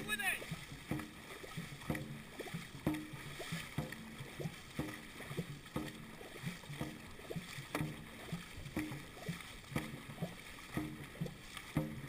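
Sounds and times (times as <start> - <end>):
paddles hitting water: 0.0 - 12.0
water rushing along hull: 0.0 - 12.0.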